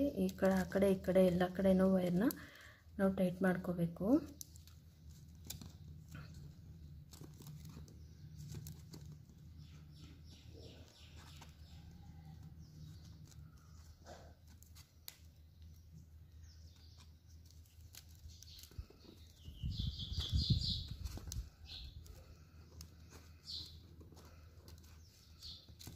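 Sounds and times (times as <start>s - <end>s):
plastic wires rustling and clicking: 0.0s - 2.5s, 4.0s - 25.9s.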